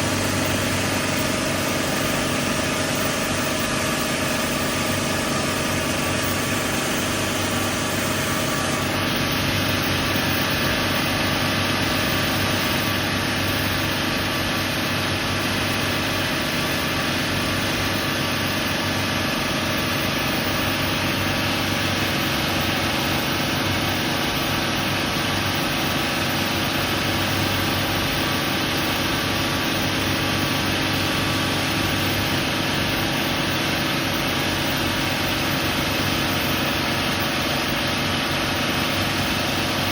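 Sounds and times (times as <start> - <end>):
diesel boat engines droning: 0.0 - 39.9.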